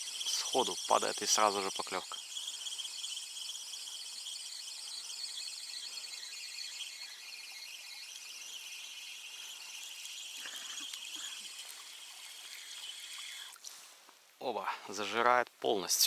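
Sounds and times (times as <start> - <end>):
high-pitched insect chorus: 0.0 - 13.8.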